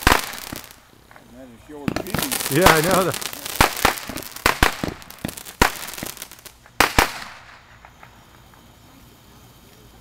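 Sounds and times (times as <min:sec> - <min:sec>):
fireworks bangs: 0:00.0 - 0:09.0
fireworks crackling: 0:00.0 - 0:10.0.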